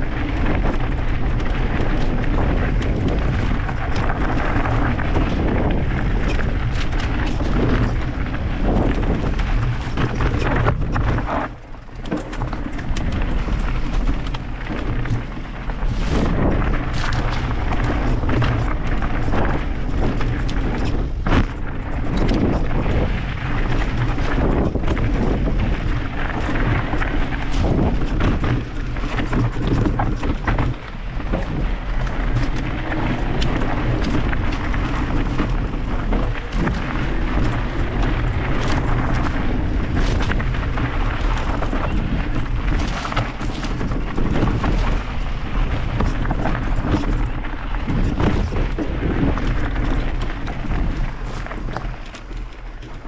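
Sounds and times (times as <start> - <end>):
bike rattling over rough trail: 0.0 - 53.0
wind buffeting microphone: 0.0 - 53.0.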